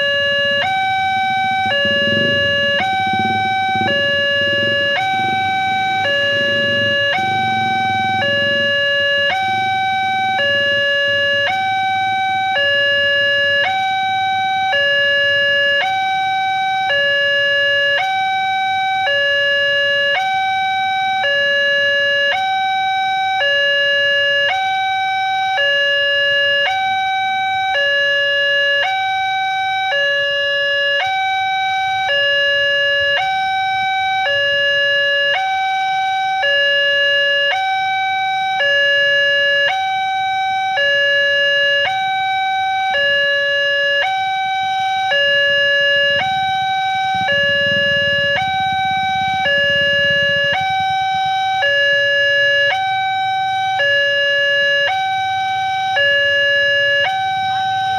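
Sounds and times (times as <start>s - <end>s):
level crossing two-tone alarm: 0.0s - 57.9s.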